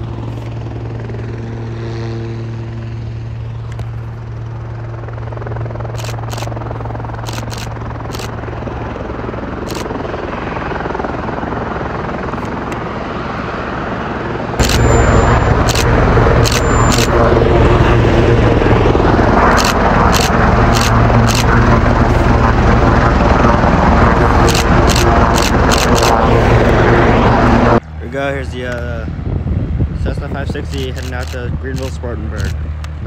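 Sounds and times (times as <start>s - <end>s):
helicopter engine and rotors: 0.0s - 33.0s.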